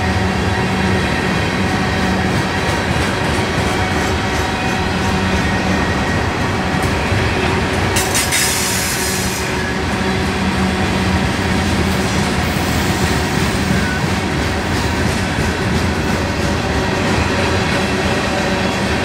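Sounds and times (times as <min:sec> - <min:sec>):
train wheels rumbling and rattling: 0:00.0 - 0:19.0.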